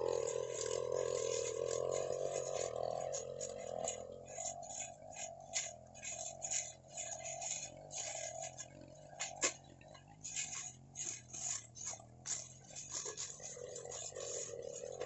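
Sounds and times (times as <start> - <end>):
brush cutter engine running: 0.0 - 15.0.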